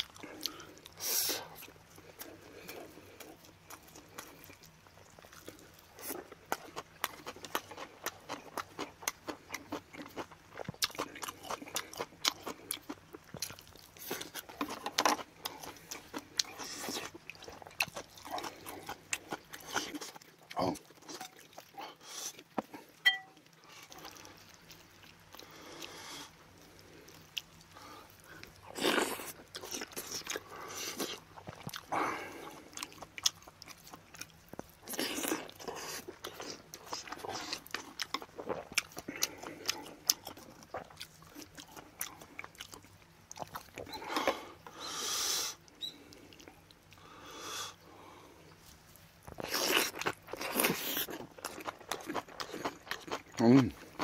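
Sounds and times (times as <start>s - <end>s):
person chewing and biting food: 0.0s - 44.8s, 48.5s - 54.0s.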